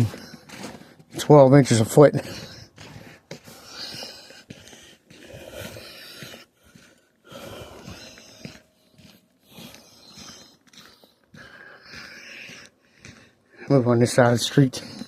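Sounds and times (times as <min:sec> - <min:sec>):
footsteps crunching in snow: 0:00.0 - 0:13.3.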